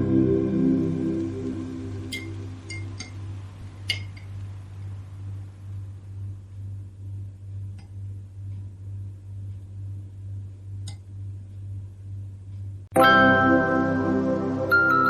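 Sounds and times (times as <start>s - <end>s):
low pulsing hum: 0.0s - 12.9s.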